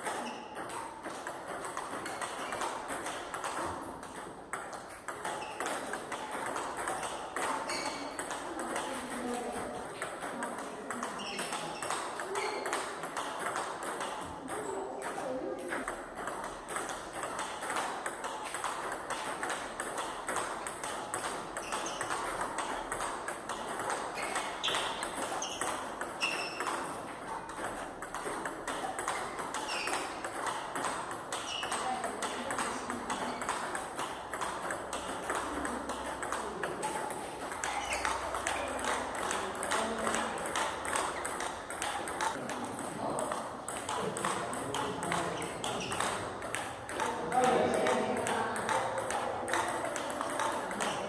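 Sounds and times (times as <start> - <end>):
table tennis ball clicks: 0.0 - 51.0.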